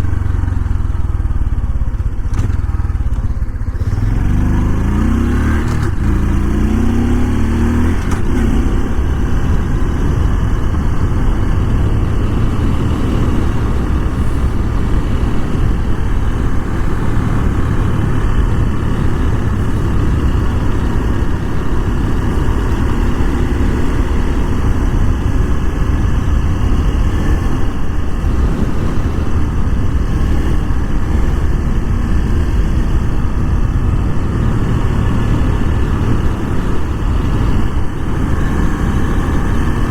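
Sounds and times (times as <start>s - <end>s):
motorbike engine: 0.0s - 39.9s.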